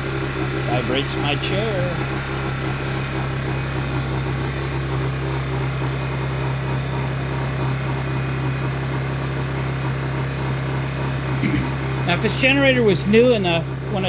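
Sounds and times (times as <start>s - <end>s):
generator engine humming: 0.0s - 14.0s.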